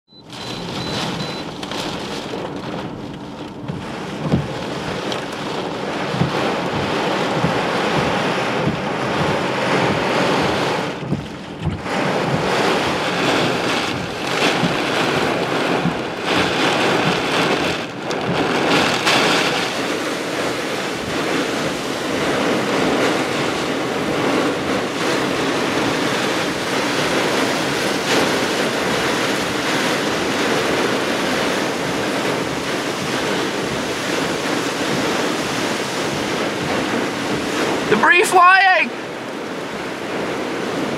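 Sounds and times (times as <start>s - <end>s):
strong gusting wind: 0.6s - 40.9s.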